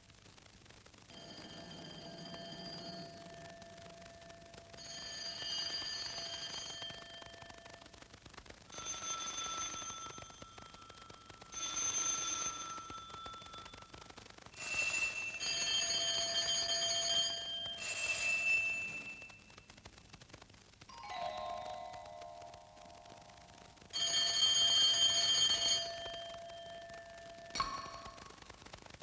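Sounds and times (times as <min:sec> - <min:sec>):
telephone ringing: 0:01.1 - 0:19.9, 0:20.9 - 0:28.7.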